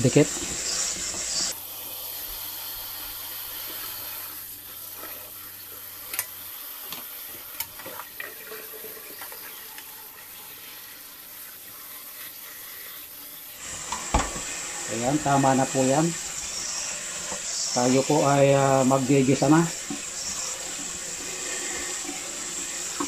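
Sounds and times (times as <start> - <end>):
faucet water running into colander: 0.0 - 23.0.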